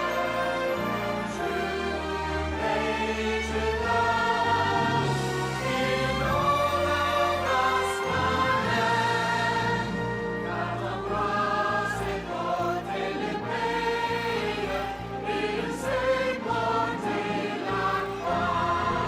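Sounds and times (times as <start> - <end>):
choir singing slow notes: 0.0 - 19.0.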